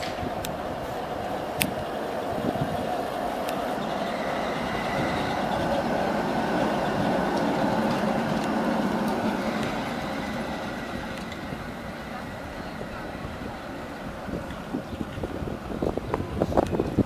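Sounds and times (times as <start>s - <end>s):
tram rumbling on rails: 0.0s - 17.0s
faint high whine: 0.8s - 16.2s.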